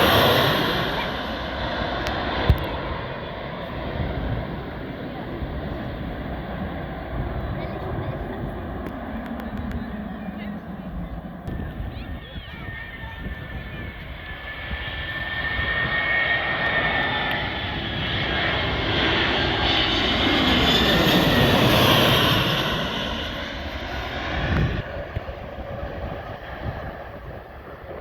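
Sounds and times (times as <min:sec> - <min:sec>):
airliner passing low overhead: 0:00.0 - 0:28.0.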